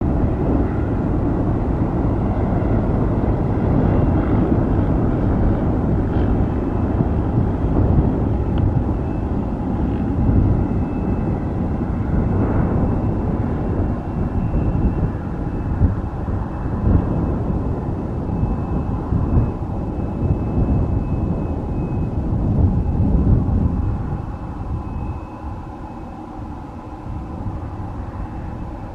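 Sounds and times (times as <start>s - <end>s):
high engine whine: 0.0s - 28.9s
jet engines deep rumble: 0.0s - 28.9s.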